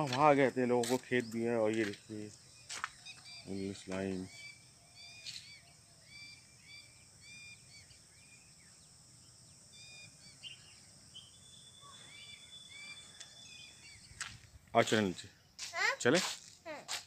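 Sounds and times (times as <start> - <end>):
faint chirping bird calls: 0.0 - 17.0.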